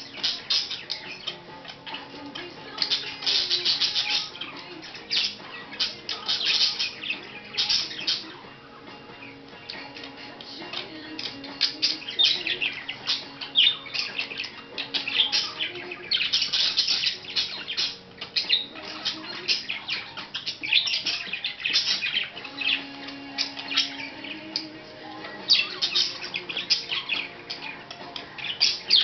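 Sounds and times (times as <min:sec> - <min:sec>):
budgie chattering and warbling: 0:00.0 - 0:08.6, 0:09.2 - 0:29.0.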